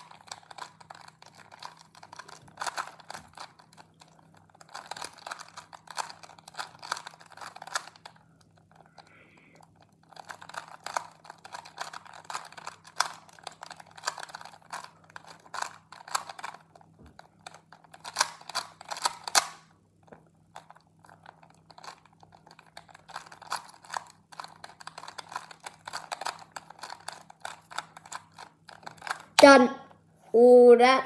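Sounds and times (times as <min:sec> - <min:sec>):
puzzle cube clicking: 0:00.0 - 0:09.0, 0:09.6 - 0:19.7, 0:20.5 - 0:29.6.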